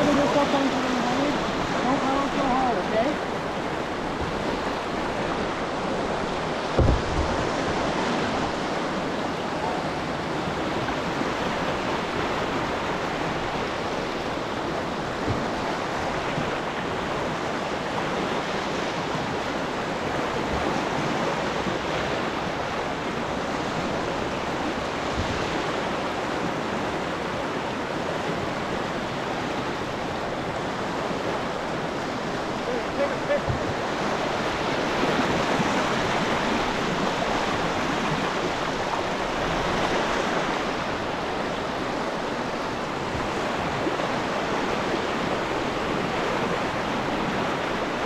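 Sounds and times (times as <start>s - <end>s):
whitewater wave rushing: 0.0s - 48.0s.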